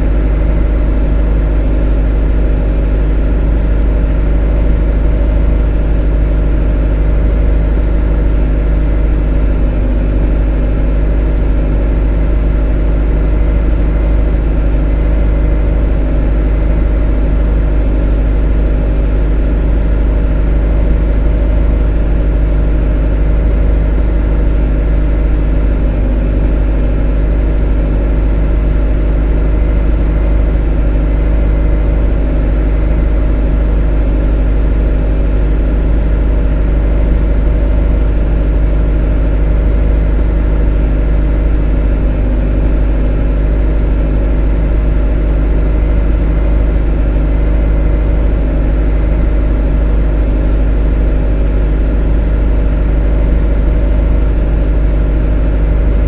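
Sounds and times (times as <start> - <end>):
motor droning: 0.0 - 56.0.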